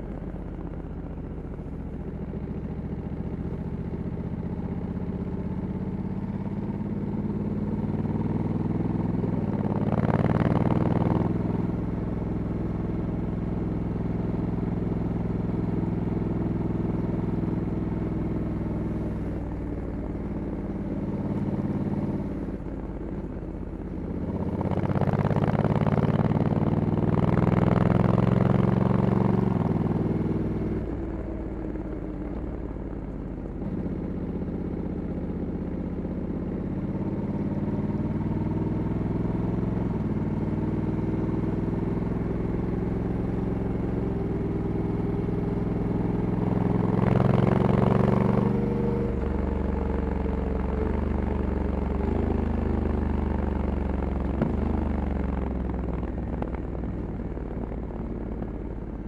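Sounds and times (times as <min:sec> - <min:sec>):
motorcycle engine revving: 0:01.2 - 0:11.9, 0:16.8 - 0:22.7, 0:23.9 - 0:59.0.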